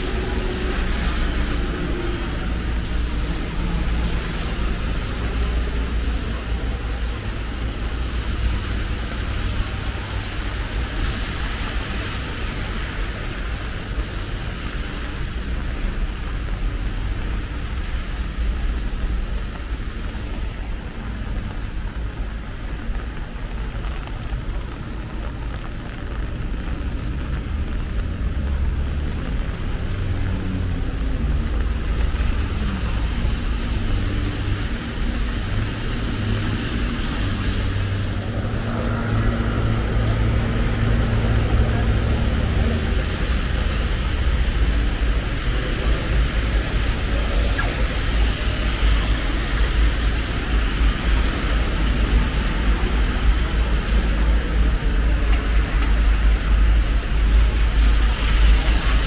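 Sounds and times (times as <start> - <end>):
low rumble of engines: 0.0 - 59.0
tyres hissing on wet road: 0.0 - 59.0.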